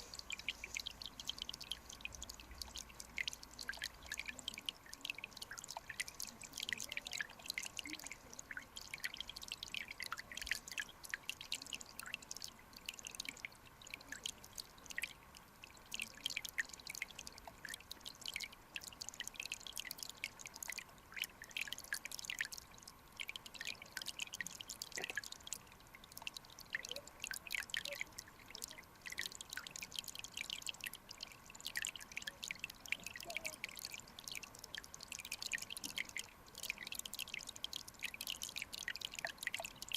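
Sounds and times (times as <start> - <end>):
soft rushing hiss: 0.0 - 39.9
stream water trickling and bubbling: 0.0 - 39.9.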